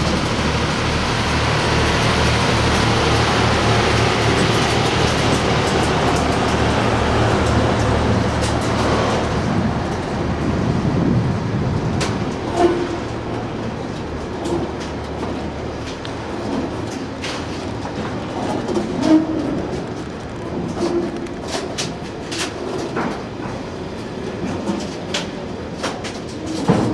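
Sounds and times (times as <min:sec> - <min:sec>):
train wheels rumbling over rails: 0:00.0 - 0:26.9.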